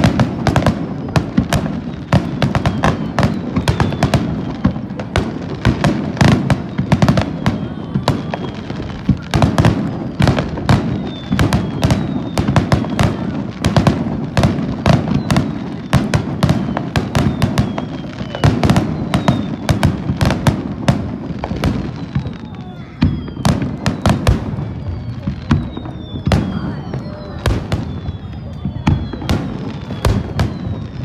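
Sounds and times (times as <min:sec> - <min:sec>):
falling firework whistles: 0:00.0 - 0:31.0
fireworks bursting and crackling: 0:00.0 - 0:31.0.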